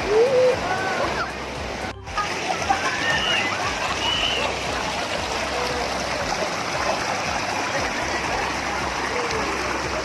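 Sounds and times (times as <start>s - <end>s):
faint voices: 0.0s - 10.0s
river water rushing over rocks: 0.0s - 10.0s.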